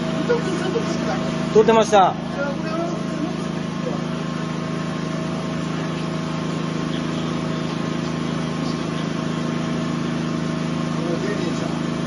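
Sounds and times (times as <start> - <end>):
mechanical drone with hum: 0.0 - 12.0.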